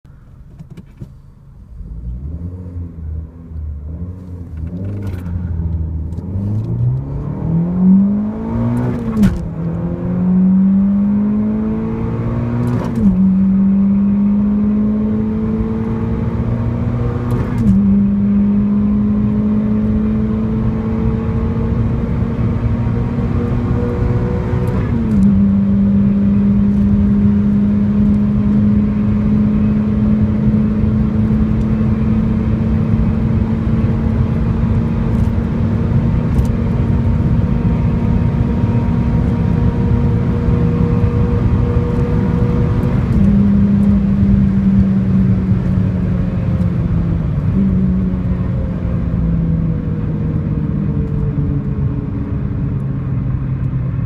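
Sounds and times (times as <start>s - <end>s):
car engine accelerating: 0.2s - 54.0s.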